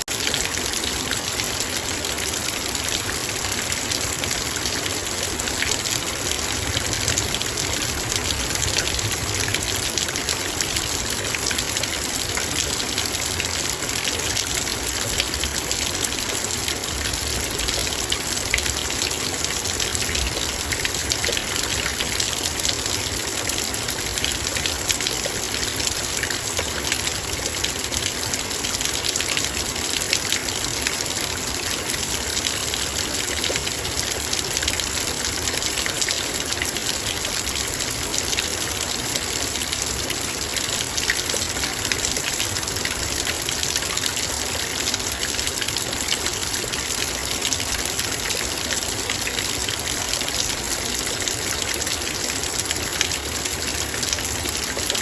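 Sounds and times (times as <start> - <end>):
heavy rain on a metal bowl: 0.0 - 55.0.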